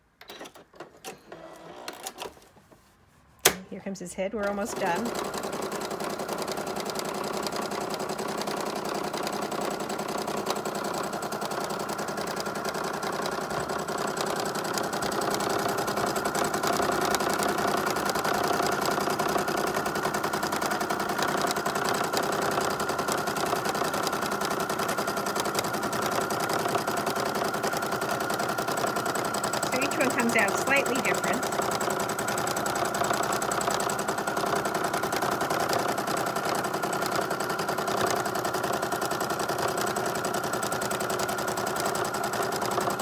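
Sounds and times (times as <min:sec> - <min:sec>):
sewing machine running: 0:04.4 - 0:43.0.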